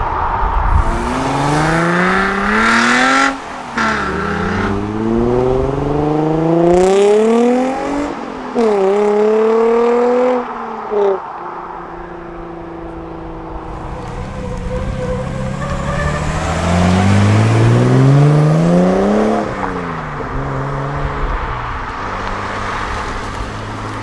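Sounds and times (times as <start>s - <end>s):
car engine accelerating hard: 0.6s - 10.5s, 12.5s - 24.0s.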